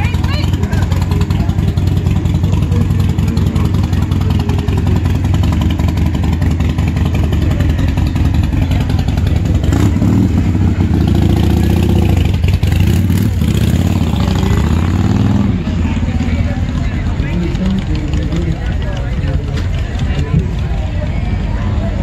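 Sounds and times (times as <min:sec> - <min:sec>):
motorcycle engine rumbling past: 0:00.0 - 0:22.0.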